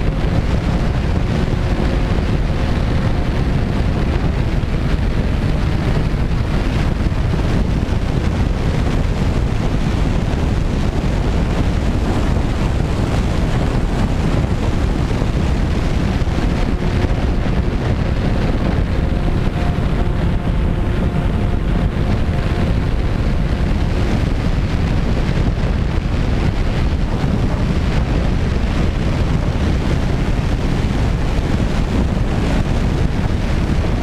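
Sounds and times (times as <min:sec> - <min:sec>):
faint propeller motor hum: 0:00.0 - 0:34.0
wind buffeting microphone: 0:00.0 - 0:34.0.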